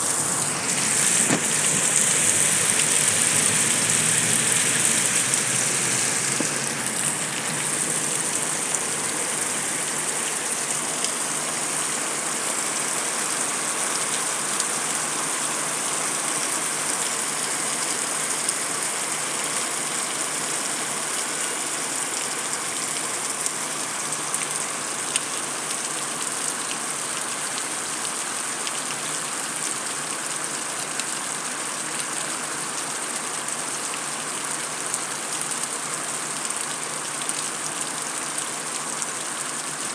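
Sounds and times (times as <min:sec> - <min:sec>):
heavy rain on concrete: 0:00.0 - 0:39.9.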